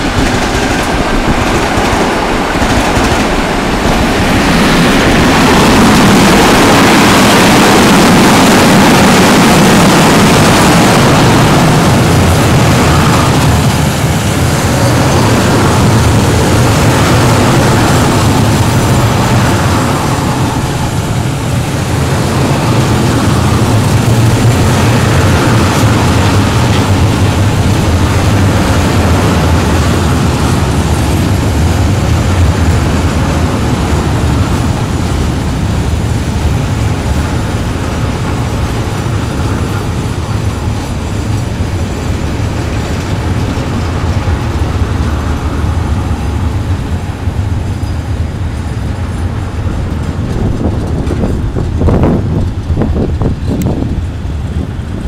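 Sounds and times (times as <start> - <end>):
freight train wheels rumbling on rail: 0.0 - 55.0.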